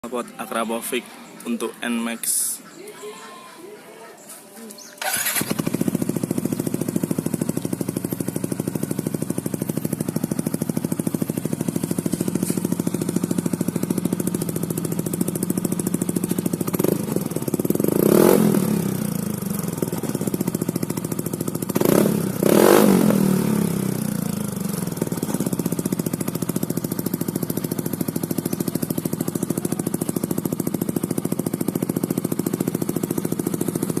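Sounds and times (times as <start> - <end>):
scooter engine idling and revving: 5.0 - 34.0.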